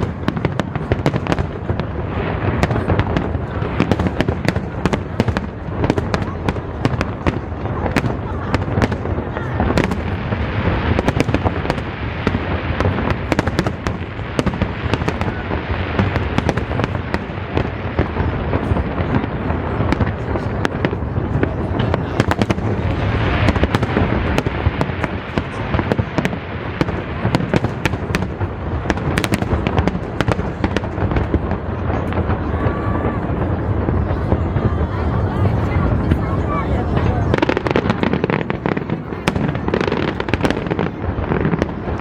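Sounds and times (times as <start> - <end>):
crowd chatter: 0.0 - 42.0
fireworks crackling: 0.0 - 42.0.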